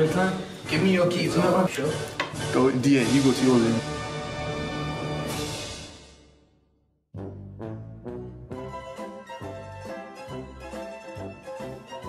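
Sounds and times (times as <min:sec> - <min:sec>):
background music with held notes: 0:00.0 - 0:05.9, 0:07.2 - 0:12.0.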